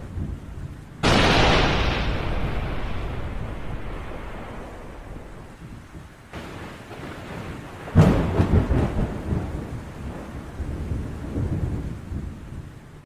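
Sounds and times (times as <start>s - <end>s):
rain hissing: 0.0s - 11.8s
thunder crack and rumble: 0.0s - 13.0s.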